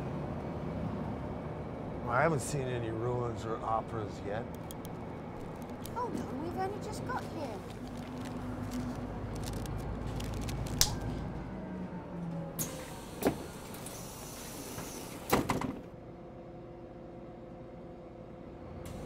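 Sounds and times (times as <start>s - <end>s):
road noise: 0.0s - 16.6s
bus engine rumble: 0.0s - 19.0s.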